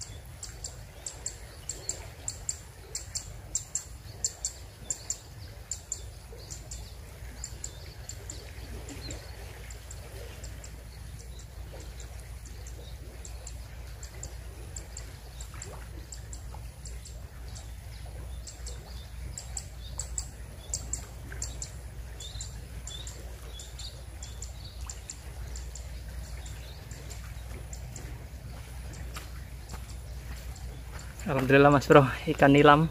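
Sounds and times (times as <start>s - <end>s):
moving water: 0.0s - 32.9s
small birds chirping: 0.0s - 32.9s
wind: 0.0s - 32.9s.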